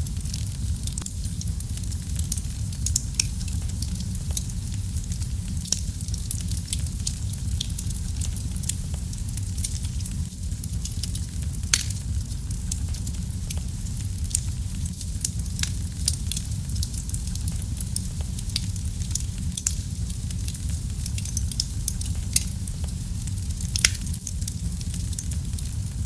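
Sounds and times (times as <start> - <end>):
fire crackling in fireplace: 0.0 - 26.0.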